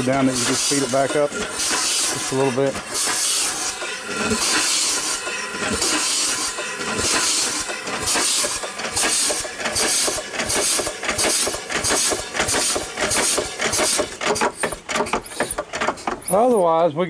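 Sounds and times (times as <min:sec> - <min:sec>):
engine knocks: 0:00.0 - 0:16.3
steam leaking: 0:00.0 - 0:16.7
steam engine chuffing: 0:00.0 - 0:16.9.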